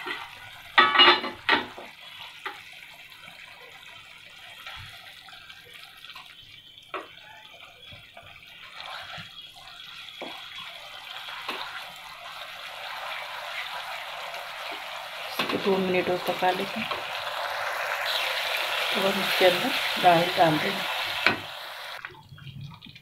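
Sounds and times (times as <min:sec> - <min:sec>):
sauce sizzling and bubbling: 0:00.0 - 0:23.0.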